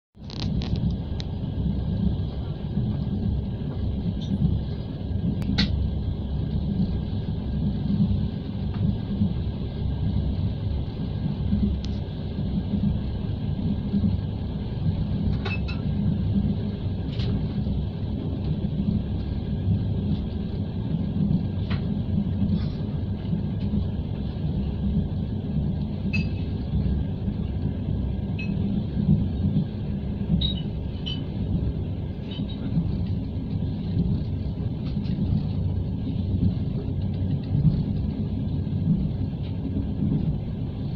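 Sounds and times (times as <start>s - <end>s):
train wheels rumbling on track: 0.2s - 40.9s.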